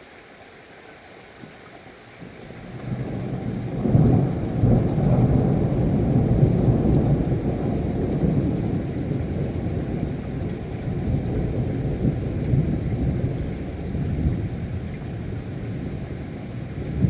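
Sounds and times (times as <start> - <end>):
steady rain: 0.0 - 17.0
low thunder rolling: 2.9 - 17.0.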